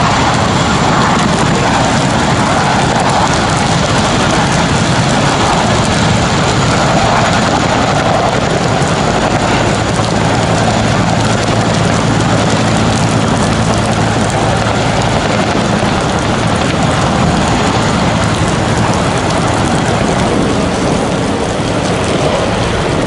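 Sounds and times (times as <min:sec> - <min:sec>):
heavy rain: 0:00.0 - 0:23.0
low engine drone: 0:00.0 - 0:23.0.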